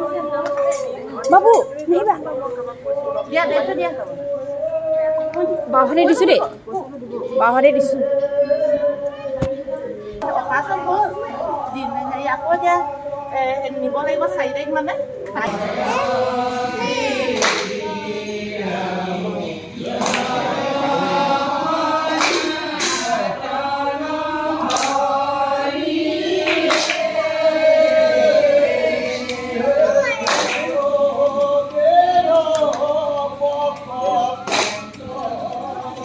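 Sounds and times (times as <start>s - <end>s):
group singing a devotional chant: 0.0s - 36.0s.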